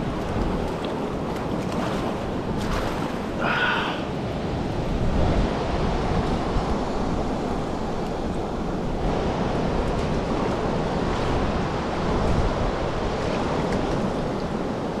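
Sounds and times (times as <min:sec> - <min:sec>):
river rushing over stones: 0:00.0 - 0:15.0
wind on microphone: 0:00.0 - 0:15.0.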